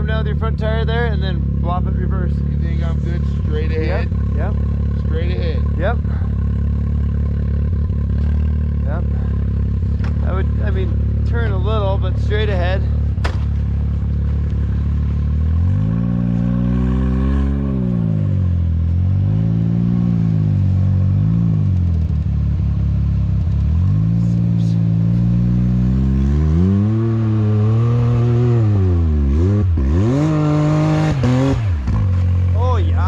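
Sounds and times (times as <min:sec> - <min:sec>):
utility vehicle engine revving: 0:00.0 - 0:33.0.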